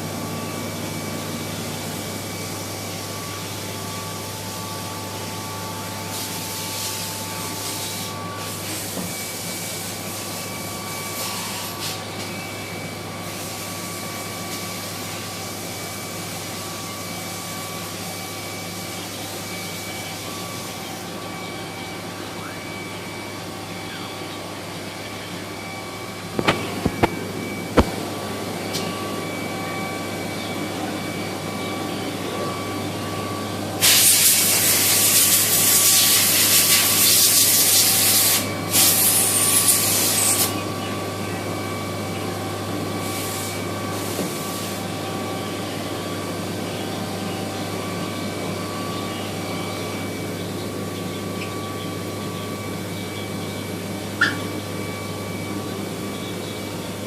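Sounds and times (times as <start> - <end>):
machining center humming and whining: 0.0 - 57.0.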